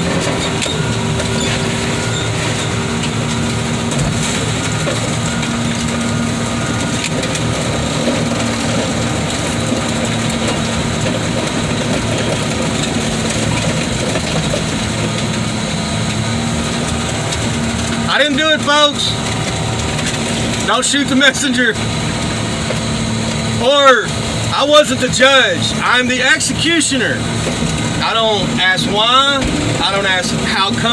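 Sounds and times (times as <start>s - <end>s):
heavy equipment engine running: 0.0s - 30.9s.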